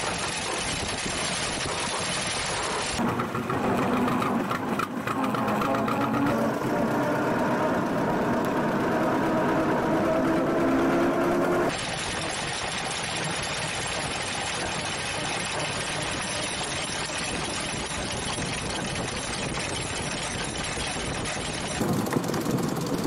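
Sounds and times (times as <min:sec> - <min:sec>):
car engine and drivetrain running: 0:00.0 - 0:23.0.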